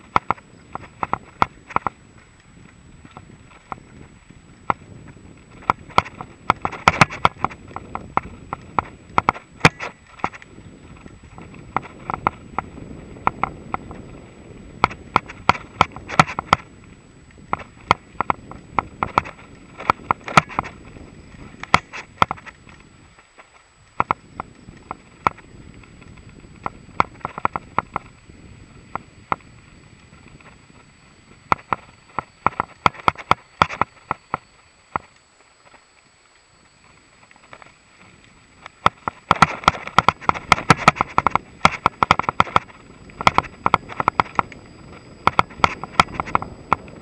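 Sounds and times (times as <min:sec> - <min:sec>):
bike rattles and clacks: 0:00.0 - 0:47.0
tyres rumbling on trail: 0:00.0 - 0:47.0
wind: 0:00.0 - 0:47.0.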